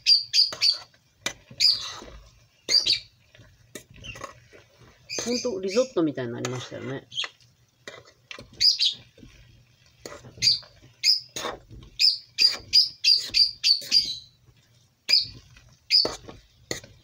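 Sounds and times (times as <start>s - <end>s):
metal utensil scraping a steel pot: 0.1s - 14.2s, 15.1s - 17.0s.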